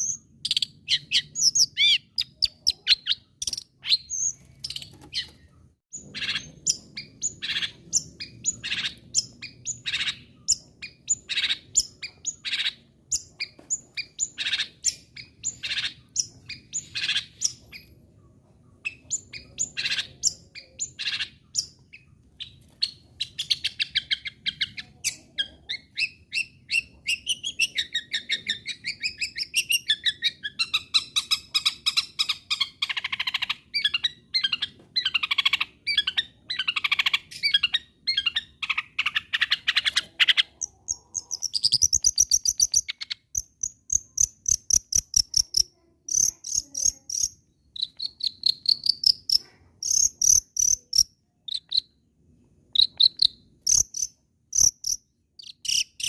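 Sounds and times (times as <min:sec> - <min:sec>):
shrike calls and chattering song: 0:00.0 - 0:17.9, 0:18.9 - 0:52.0, 0:52.7 - 0:56.0.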